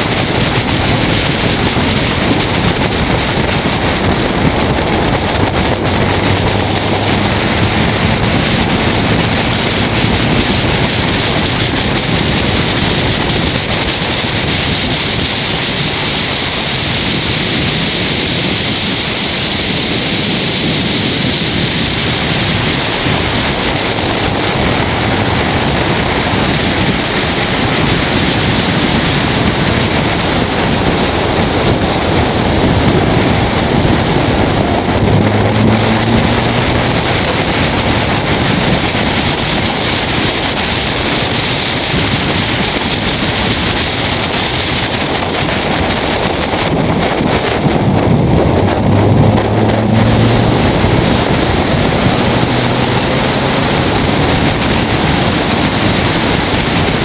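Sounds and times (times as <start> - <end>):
race car engine drone: 0.0 - 57.0
wind rushing over microphone: 0.0 - 57.0.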